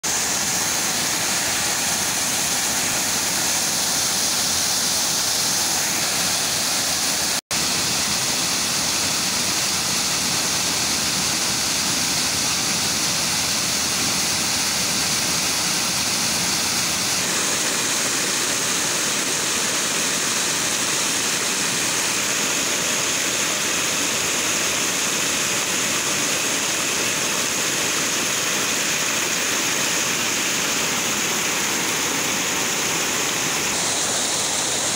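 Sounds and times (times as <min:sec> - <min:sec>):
floodwater rushing down a stream: 0:00.0 - 0:34.9.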